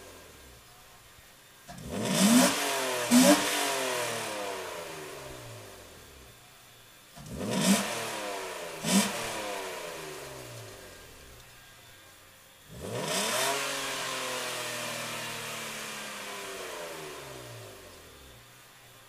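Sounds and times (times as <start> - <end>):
car engine revving from idle: 0.0 - 0.7, 1.6 - 19.0.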